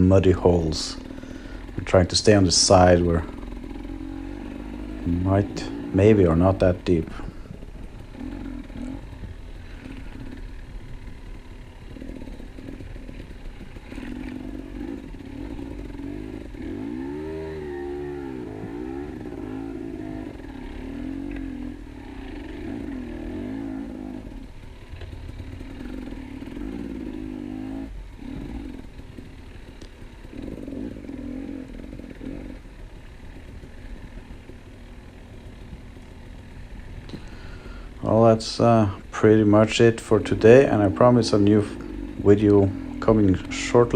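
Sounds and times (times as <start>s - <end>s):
two-stroke motorcycle engine revving: 0.0s - 43.9s.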